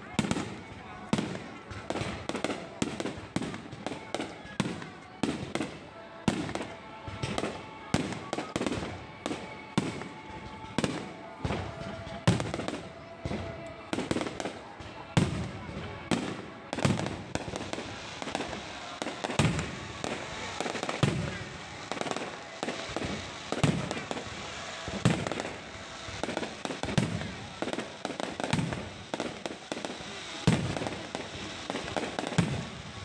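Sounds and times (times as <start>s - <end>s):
fireworks bangs: 0.0s - 33.0s
fireworks crackle and rumble: 0.0s - 33.0s.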